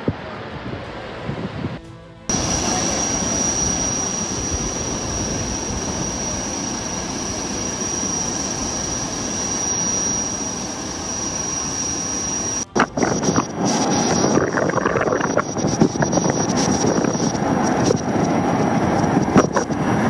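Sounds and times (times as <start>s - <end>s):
jet turbine roar and whine: 0.0s - 20.0s.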